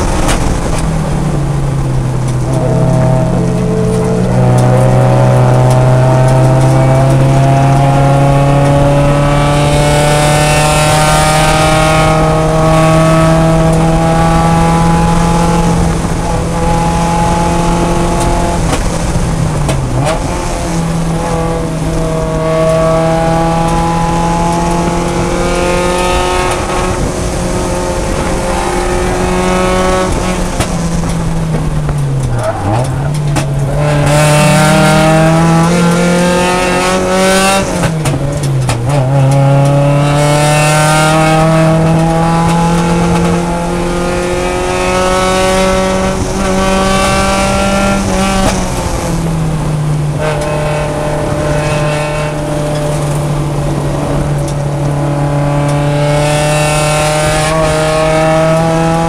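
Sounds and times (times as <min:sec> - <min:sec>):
race car engine at full throttle: 0:00.0 - 0:59.0.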